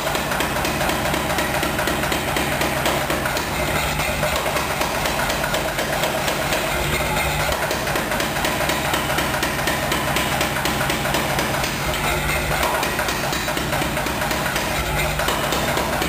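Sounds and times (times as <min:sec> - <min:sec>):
power hammer pounding hot iron: 0:00.0 - 0:16.0.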